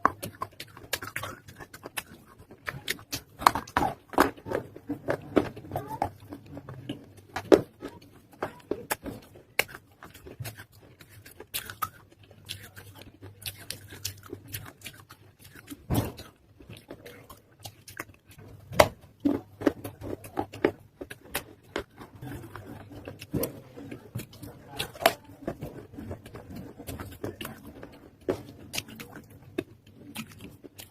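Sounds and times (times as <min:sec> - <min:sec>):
chewing crunches: 0:00.0 - 0:30.9.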